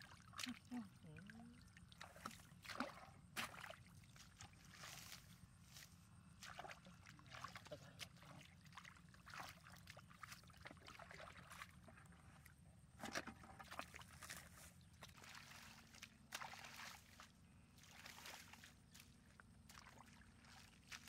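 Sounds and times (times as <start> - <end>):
muddy water splashing: 0.0 - 21.0.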